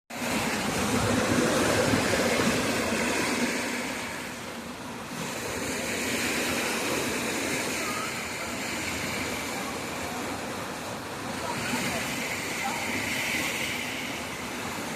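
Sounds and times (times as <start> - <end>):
water rushing: 0.1 - 14.9.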